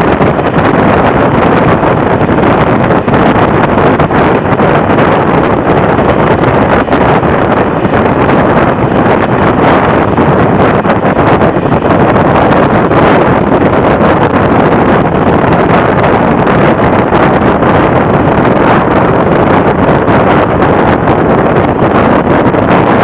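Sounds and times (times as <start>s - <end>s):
train carriage rumbling on track: 0.0s - 23.0s
wind rushing over microphone: 0.0s - 23.0s.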